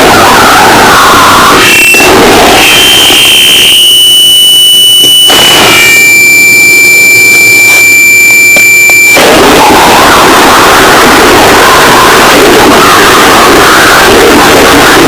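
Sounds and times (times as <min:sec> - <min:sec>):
electronic noise haze: 0:00.0 - 0:15.0
shrill electronic tone: 0:00.0 - 0:15.0.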